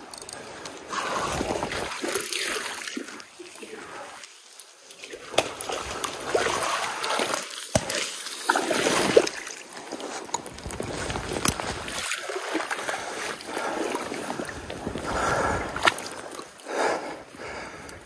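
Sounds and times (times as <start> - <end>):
stream water splashing: 0.5 - 17.9.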